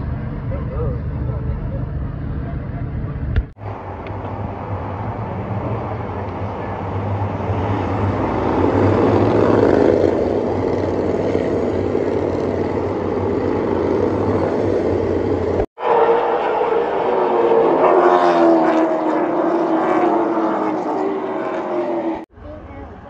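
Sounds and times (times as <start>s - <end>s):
race car engines passing: 0.0s - 23.0s.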